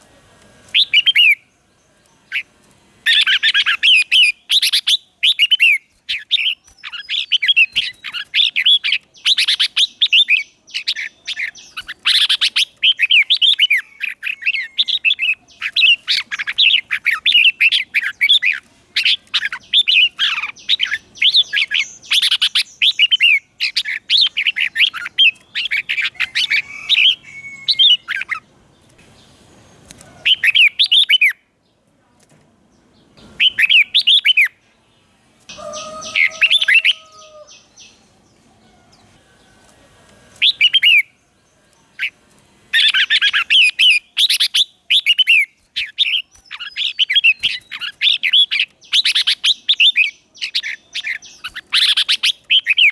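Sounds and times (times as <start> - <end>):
bird singing warbled phrases: 0.6 - 31.8, 32.8 - 39.7, 40.3 - 52.9.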